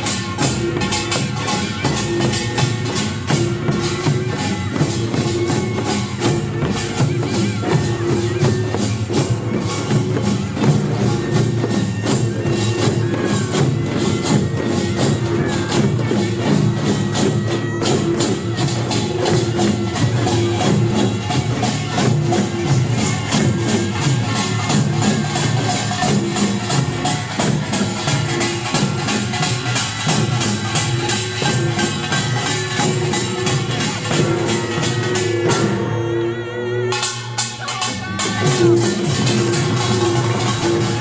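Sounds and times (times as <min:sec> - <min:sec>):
barrel drums: 0:00.0 - 0:41.0
hourglass drums: 0:00.0 - 0:41.0.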